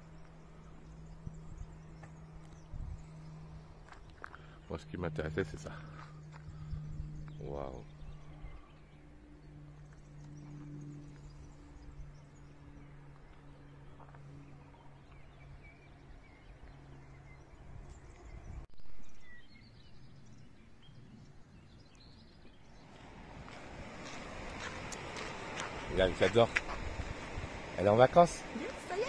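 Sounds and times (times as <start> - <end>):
steady low hum: 0.0 - 18.7, 22.3 - 29.0
faint birds chirping: 0.0 - 29.0.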